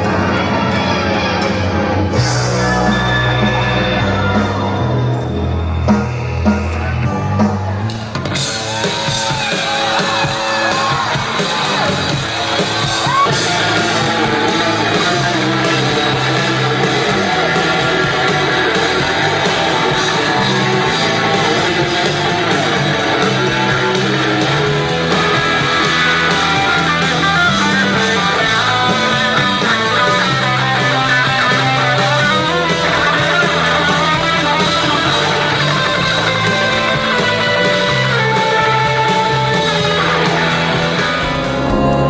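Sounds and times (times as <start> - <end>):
bass guitar low notes: 0.0 - 42.0
electric guitar lines: 0.0 - 42.0.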